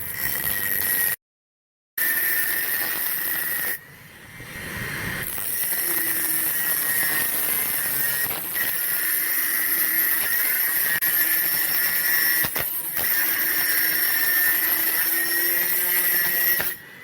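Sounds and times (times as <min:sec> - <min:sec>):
angle grinder motor whining: 0:02.0 - 0:17.0.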